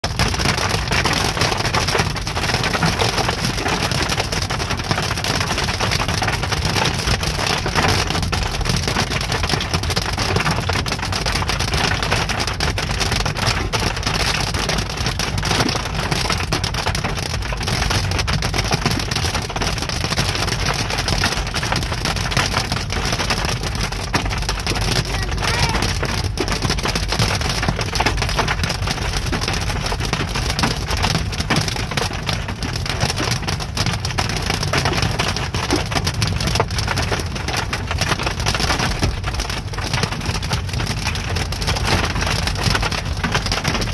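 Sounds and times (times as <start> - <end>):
car rumbling on wet road: 0.0 - 43.9
hail and rain on car roof: 0.0 - 43.9.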